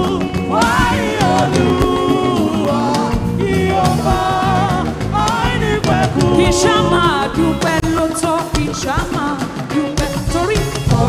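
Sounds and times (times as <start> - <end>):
band playing gospel music: 0.0 - 11.0
person singing: 0.0 - 11.0.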